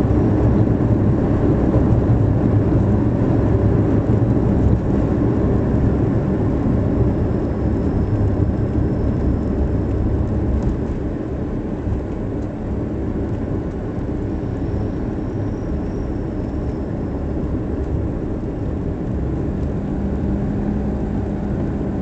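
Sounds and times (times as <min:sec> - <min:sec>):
car road rumble from cabin: 0:00.0 - 0:22.0.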